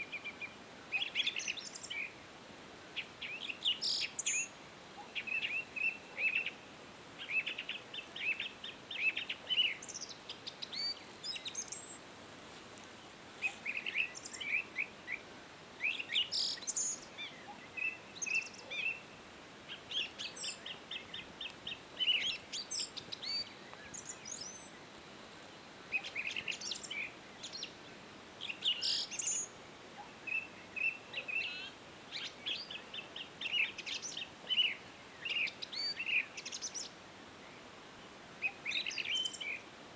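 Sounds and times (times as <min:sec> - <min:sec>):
small birds chirping: 0:00.0 - 0:02.2, 0:02.9 - 0:39.7.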